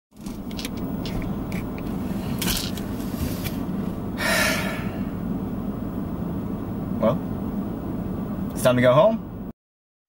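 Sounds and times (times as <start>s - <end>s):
low cabin hum: 0.2s - 9.5s.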